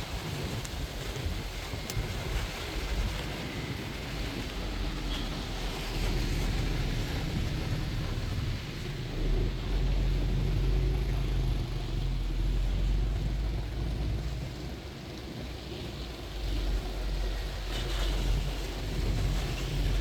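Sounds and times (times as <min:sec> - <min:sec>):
bus rumble and road noise: 0:00.0 - 0:20.0
street traffic: 0:00.0 - 0:20.0.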